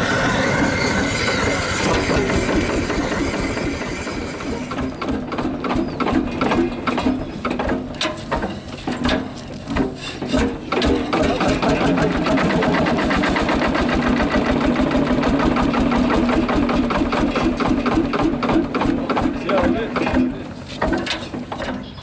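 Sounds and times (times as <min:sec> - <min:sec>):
sharp uneven engine knocks: 0:00.0 - 0:22.0
tractor engine running: 0:00.0 - 0:22.0.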